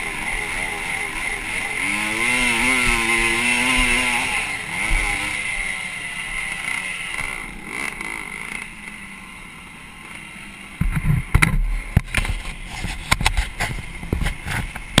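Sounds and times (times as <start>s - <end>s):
motorbike engine at low revs: 0.0s - 15.0s.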